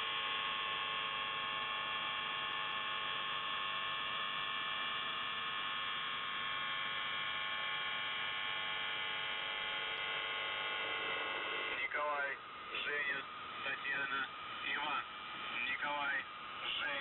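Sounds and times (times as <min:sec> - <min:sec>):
harsh steady radio buzz: 0:00.0 - 0:17.0.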